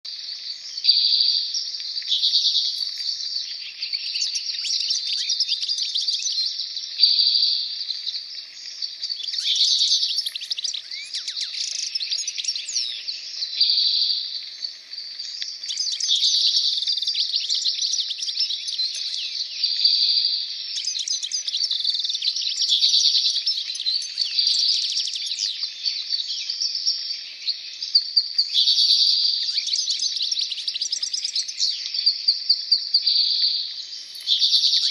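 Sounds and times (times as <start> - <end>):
chorus of birds singing: 0.0 - 34.9.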